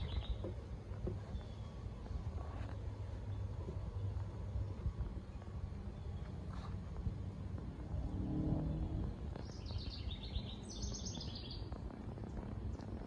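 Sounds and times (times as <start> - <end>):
low outdoor rumble: 0.0 - 13.0
songbird chirping: 0.0 - 13.0.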